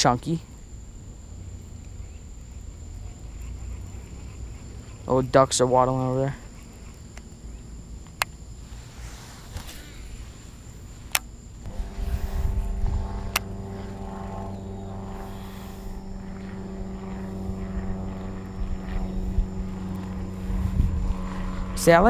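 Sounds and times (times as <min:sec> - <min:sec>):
steady engine drone: 0:00.0 - 0:22.0.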